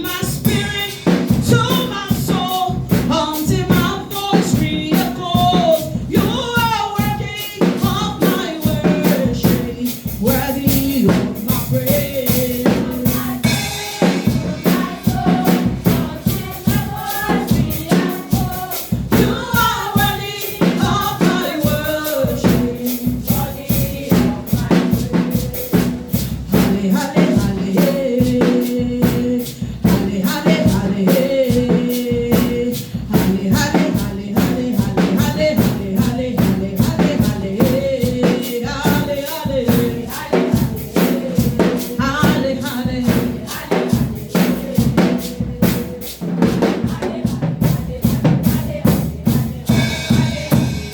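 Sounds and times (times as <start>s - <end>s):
drum kit and band: 0.0s - 50.9s.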